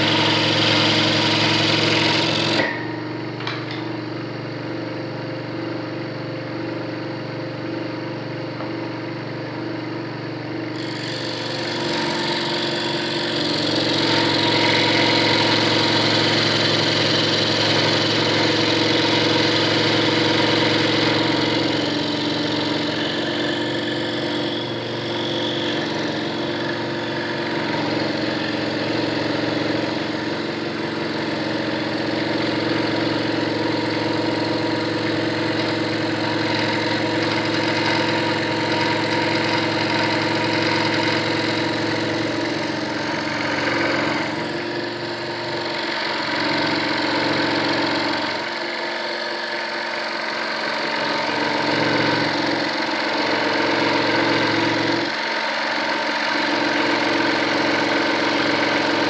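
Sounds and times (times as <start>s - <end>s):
scroll saw cutting wood: 0.0s - 3.0s, 10.6s - 59.0s.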